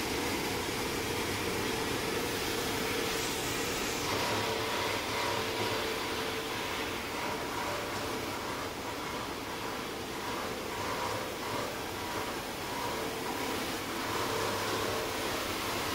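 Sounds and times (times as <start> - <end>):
machinery whirring: 0.9 - 15.9.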